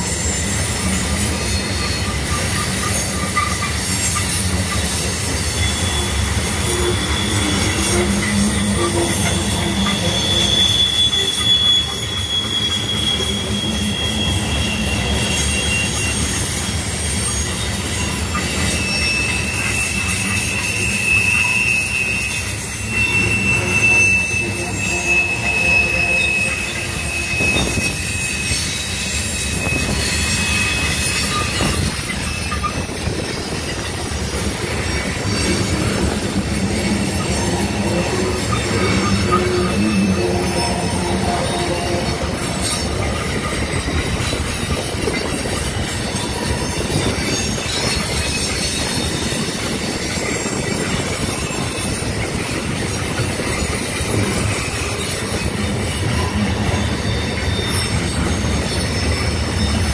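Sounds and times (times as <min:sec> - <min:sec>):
train wheels rumbling on rail: 0:00.0 - 0:59.9
wheel flanges squealing: 0:00.0 - 0:59.9.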